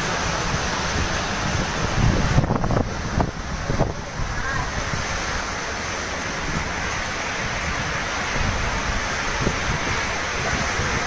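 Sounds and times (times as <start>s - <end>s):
wind buffeting microphone: 0.0s - 5.5s, 6.3s - 11.0s
heavy driving rain: 0.0s - 11.0s
strong wind: 0.0s - 11.0s.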